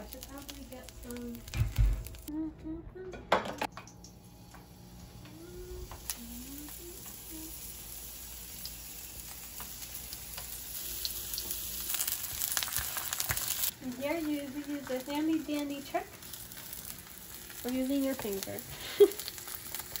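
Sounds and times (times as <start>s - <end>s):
vegetables sizzling in frying pan: 0.0s - 2.3s, 4.0s - 20.0s.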